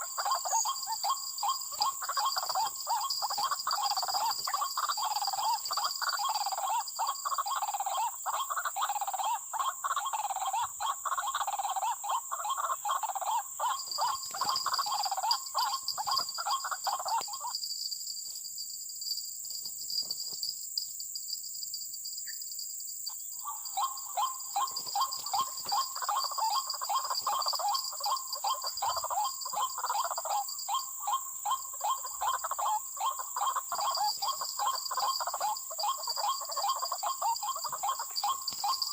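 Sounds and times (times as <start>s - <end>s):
waterhen croaking calls: 0.0s - 17.5s, 23.4s - 38.9s.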